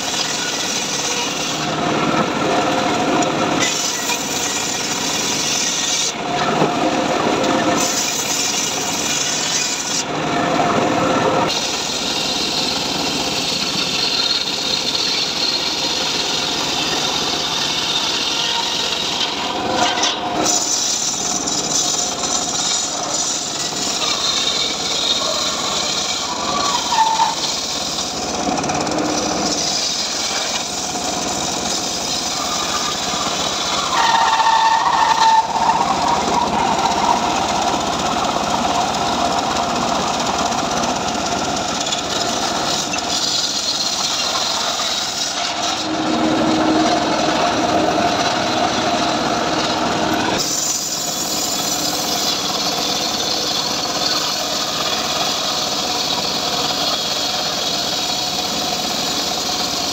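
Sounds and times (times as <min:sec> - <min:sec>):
circular saw cutting wood: 0:00.0 - 0:59.9.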